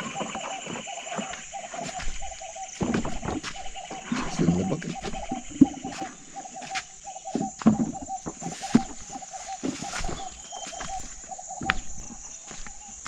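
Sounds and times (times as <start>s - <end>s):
knocks and rustling: 0.0s - 12.2s.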